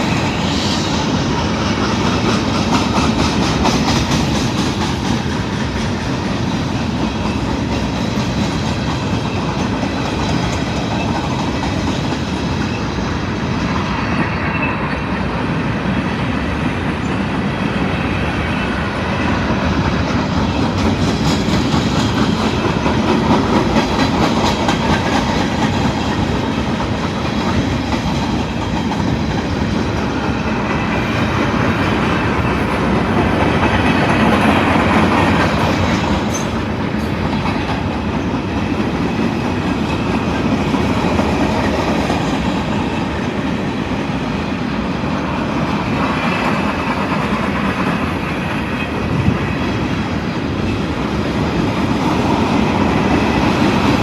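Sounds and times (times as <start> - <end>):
train cars rolling on rails: 0.0 - 54.0.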